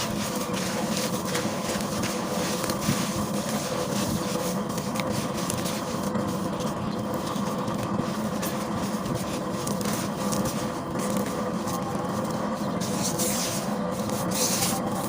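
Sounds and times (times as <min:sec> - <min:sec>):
gritty paste crackling: 0:00.0 - 0:15.0
steady hum: 0:00.0 - 0:15.0.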